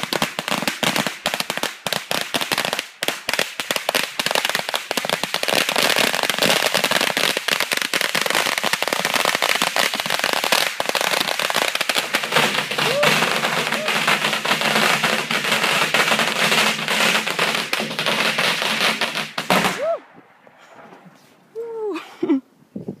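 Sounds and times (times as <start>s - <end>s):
firecrackers crackling: 0.0s - 21.7s.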